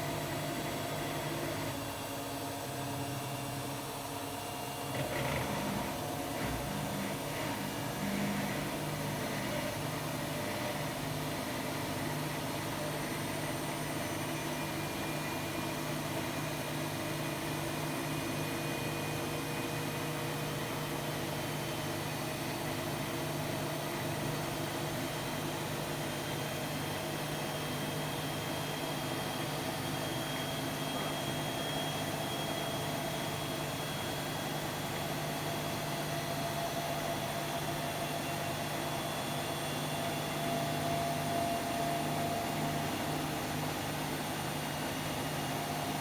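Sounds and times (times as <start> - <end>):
washer-dryer motor hum: 0.0 - 46.0.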